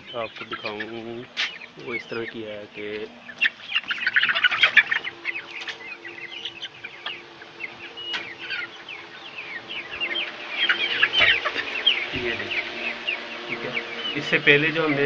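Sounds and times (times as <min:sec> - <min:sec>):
chickens peeping and clucking: 0:00.0 - 0:15.0.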